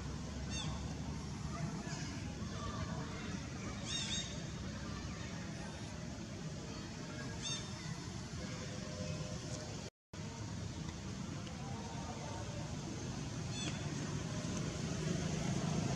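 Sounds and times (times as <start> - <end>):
outdoor background rumble: 0.0 - 15.9.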